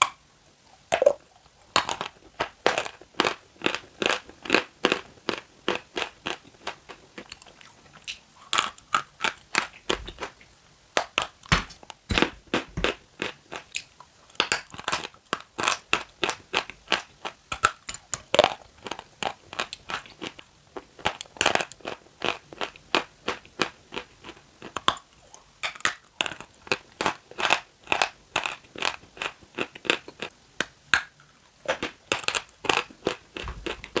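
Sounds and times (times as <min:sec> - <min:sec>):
crunching and chewing: 0:00.8 - 0:10.4, 0:11.0 - 0:34.0.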